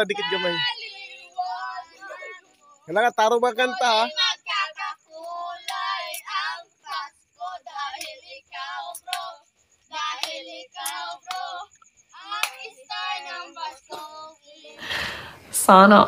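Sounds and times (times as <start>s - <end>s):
young girl singing: 0.0s - 2.9s, 3.6s - 15.2s.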